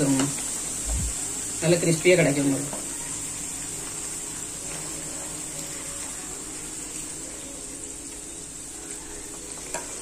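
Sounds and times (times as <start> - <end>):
oil sizzling: 0.0 - 10.0.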